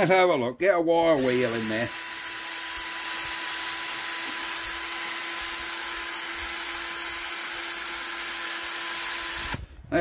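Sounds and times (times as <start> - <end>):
cordless drill motor whine: 1.2 - 9.8.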